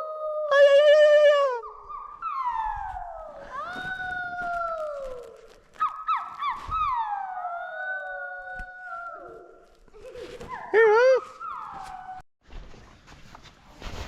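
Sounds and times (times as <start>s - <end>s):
child howling: 0.0s - 12.2s.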